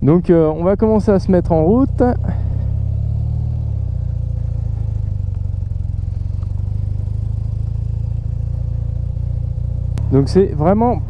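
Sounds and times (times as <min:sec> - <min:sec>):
motorcycle engine running steadily: 0:00.0 - 0:11.0.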